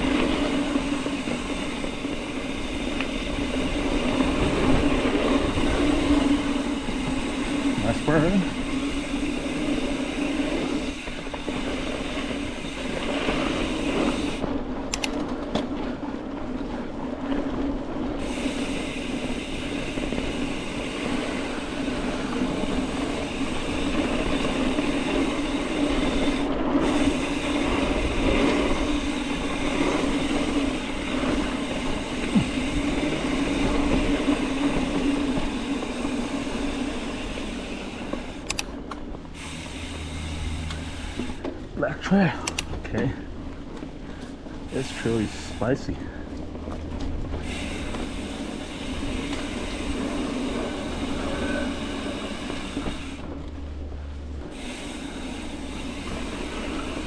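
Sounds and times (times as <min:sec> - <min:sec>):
bike rattling over ground: 0:00.0 - 0:57.0
bike tyre hum on dirt: 0:00.0 - 0:57.0.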